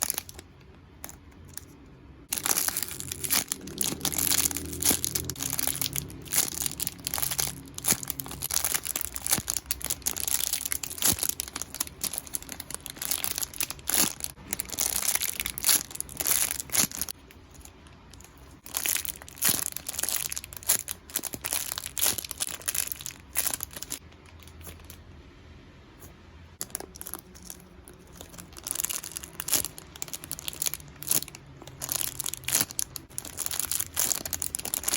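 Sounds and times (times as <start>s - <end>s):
plastic packaging crinkling: 0.0s - 25.0s, 26.6s - 34.9s.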